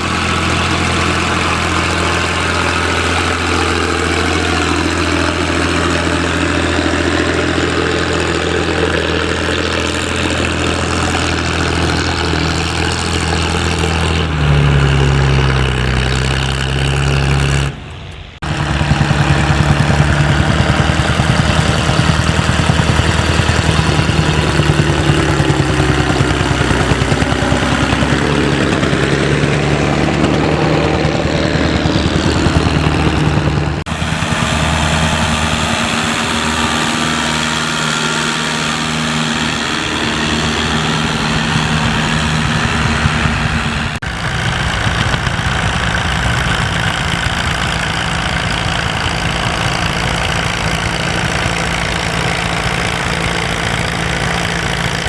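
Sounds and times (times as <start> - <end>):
tractor engines running under load: 0.0 - 55.0.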